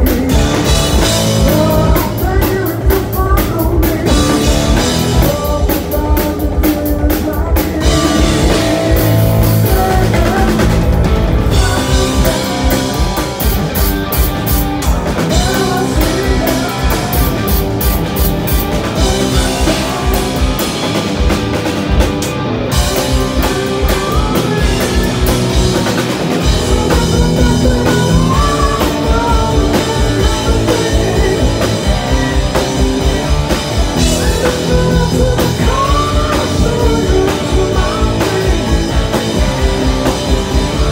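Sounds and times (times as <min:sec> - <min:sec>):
man singing: 0:00.0 - 0:13.8, 0:14.9 - 0:21.0, 0:22.9 - 0:40.9
distorted electric guitar: 0:00.0 - 0:40.9
drum kit: 0:00.0 - 0:40.9.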